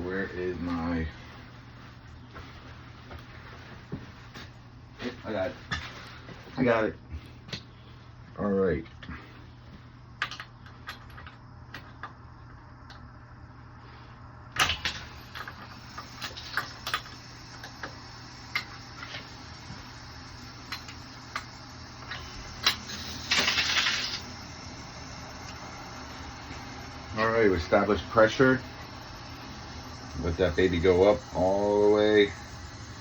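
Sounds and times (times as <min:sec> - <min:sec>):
valve hissing: 0:00.0 - 0:08.0, 0:09.1 - 0:33.0
steady low hum: 0:00.0 - 0:33.0.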